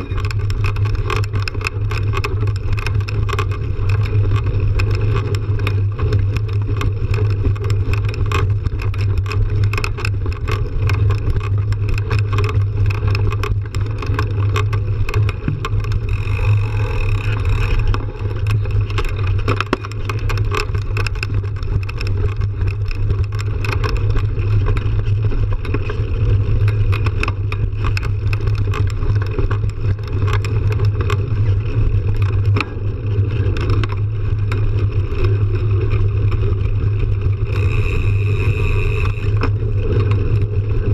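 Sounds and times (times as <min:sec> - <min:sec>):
bike rattles and clicks: 0:00.0 - 0:40.9.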